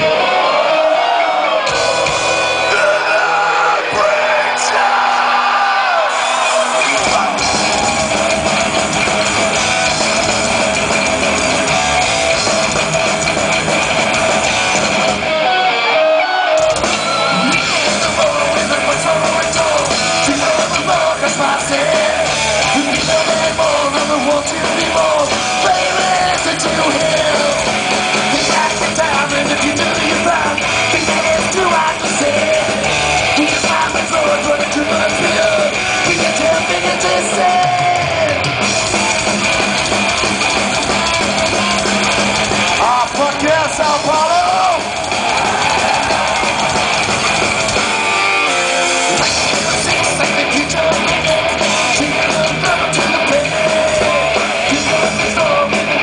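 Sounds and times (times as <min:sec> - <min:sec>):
live thrash metal band: 0:00.0 - 0:56.0.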